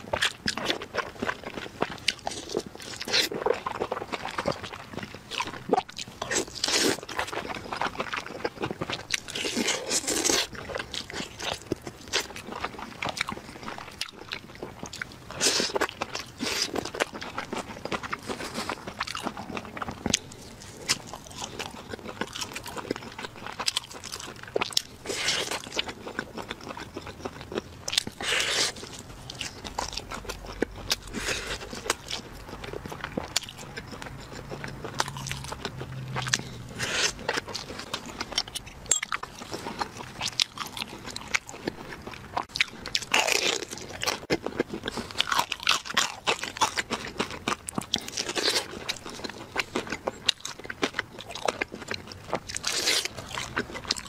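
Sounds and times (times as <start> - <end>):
person crunching and chewing food: 0.0 - 54.0.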